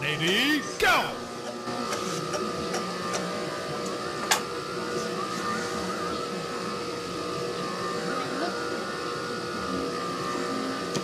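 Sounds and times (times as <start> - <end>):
steady tonal hum: 0.0 - 10.9.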